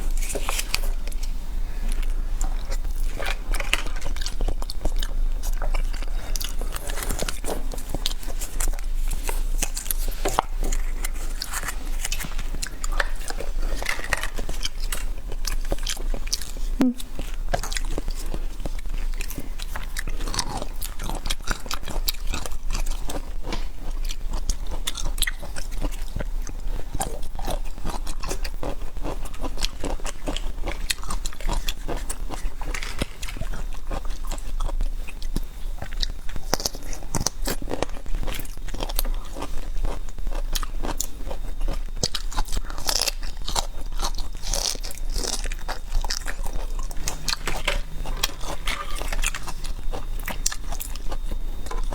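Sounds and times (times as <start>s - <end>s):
biting and chewing food: 0.0s - 51.9s.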